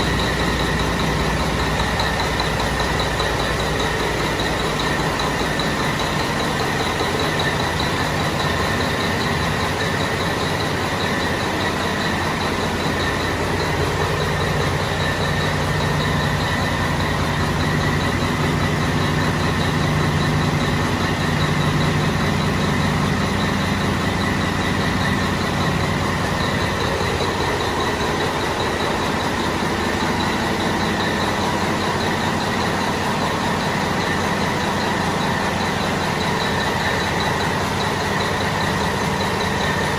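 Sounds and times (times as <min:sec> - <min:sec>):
diesel engine droning: 0:00.0 - 0:39.9
high whine: 0:00.0 - 0:39.9.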